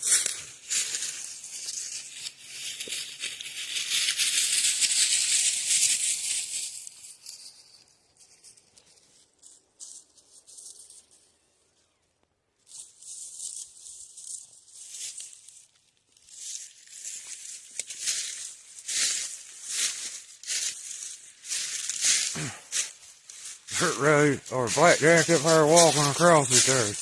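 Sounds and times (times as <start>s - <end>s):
footsteps crunching through dry leaves: 0.0s - 11.4s, 12.6s - 27.0s.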